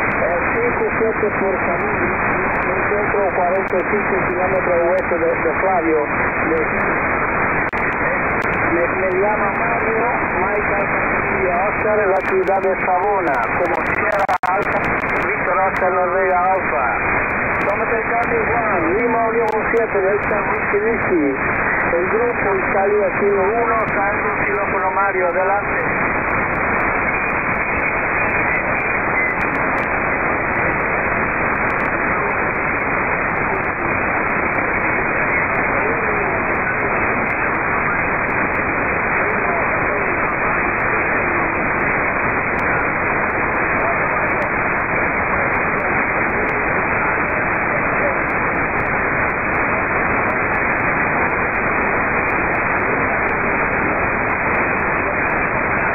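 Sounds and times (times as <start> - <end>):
radio static hiss: 0.0 - 55.9.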